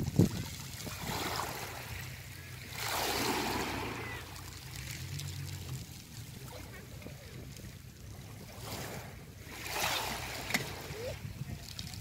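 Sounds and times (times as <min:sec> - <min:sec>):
waves rattling pebbles on beach: 0:00.0 - 0:07.5, 0:08.4 - 0:12.0.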